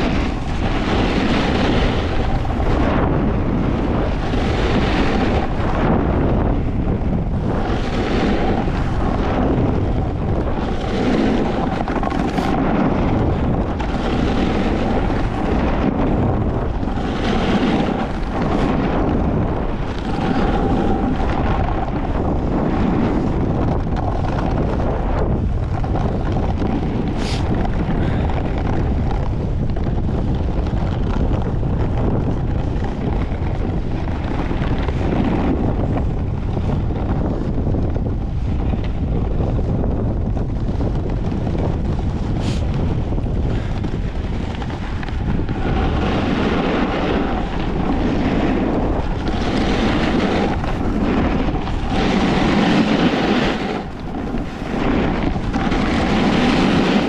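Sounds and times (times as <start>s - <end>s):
snowboard edge scraping snow: 0.0s - 29.4s, 40.6s - 57.0s
low rumble: 0.0s - 57.0s
wind buffeting microphone: 0.0s - 57.0s.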